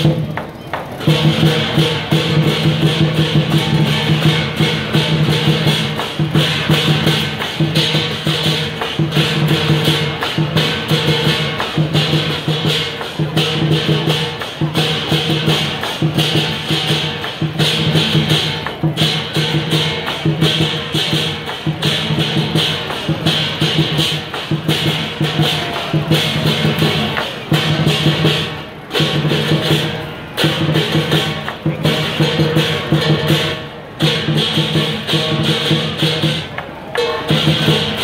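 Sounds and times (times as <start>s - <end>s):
clashing cymbals: 0.0s - 38.0s
large drum beaten fast: 0.0s - 38.0s.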